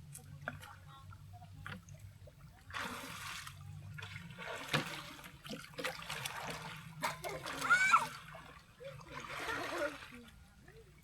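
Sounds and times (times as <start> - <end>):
river water trickling and splashing: 0.0 - 11.0.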